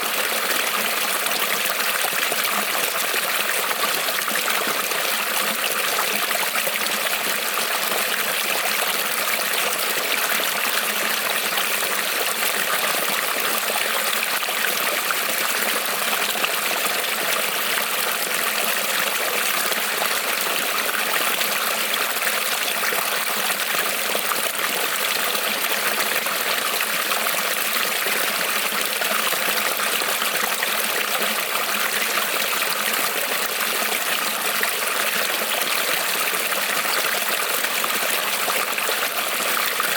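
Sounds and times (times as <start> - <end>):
creek water rippling over stones: 0.0 - 39.9.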